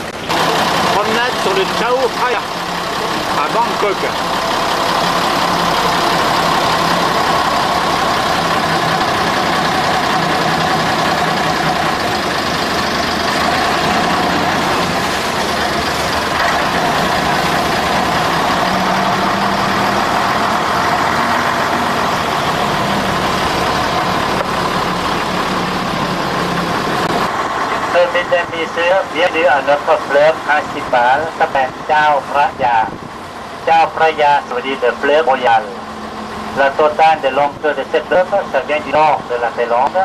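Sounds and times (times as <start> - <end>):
rushing water: 0.0 - 39.8
boat engine running: 0.0 - 40.0
wind: 0.0 - 40.0.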